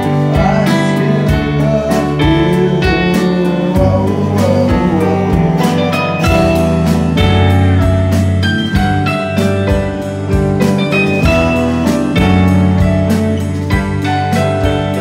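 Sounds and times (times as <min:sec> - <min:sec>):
drum kit beat: 0:00.0 - 0:15.0
live rock band playing: 0:00.0 - 0:15.0.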